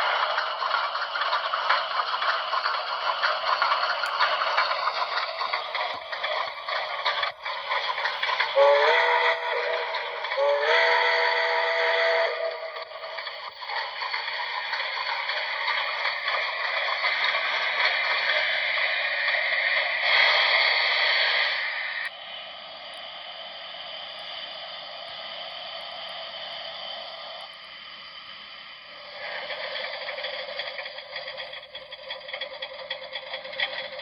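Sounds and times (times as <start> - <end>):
steam locomotive hiss and chuffs: 0.0 - 34.0.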